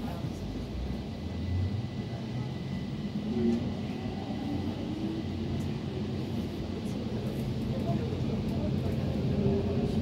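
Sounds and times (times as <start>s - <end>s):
train low hum and rumble: 0.0s - 10.0s.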